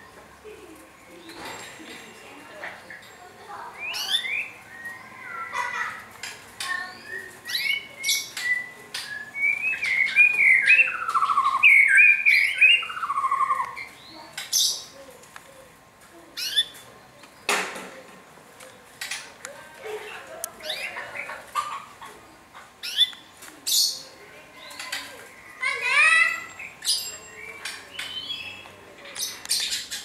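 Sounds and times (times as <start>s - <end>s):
birds chirping and squawking: 0.0s - 30.0s.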